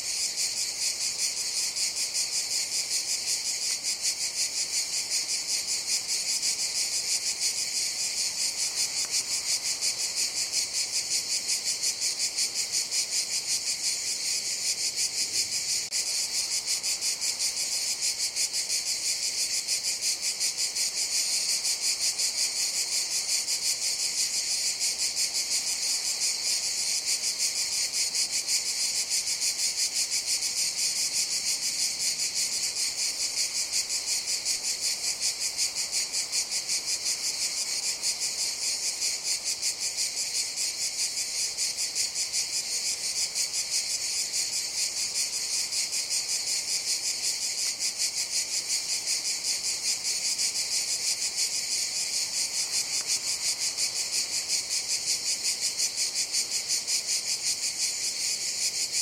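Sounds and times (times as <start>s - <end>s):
cicadas buzzing chorus: 0.0s - 59.0s.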